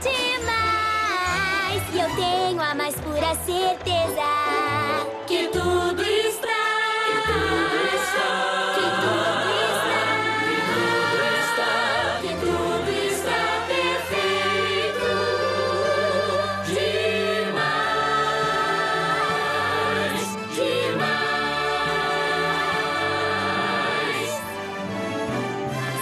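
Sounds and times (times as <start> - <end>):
chorus singing: 4.2 - 26.0.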